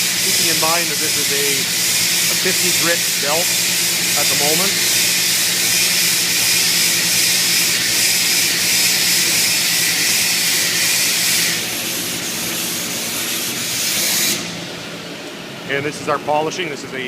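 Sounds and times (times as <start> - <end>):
belt grinder hissing on metal: 0.0 - 14.6
machine motor hum: 0.0 - 17.0.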